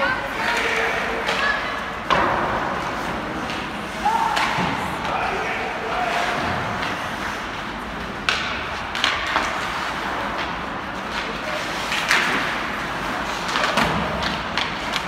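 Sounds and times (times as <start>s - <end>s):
rink and crowd noise: 0.0s - 15.0s.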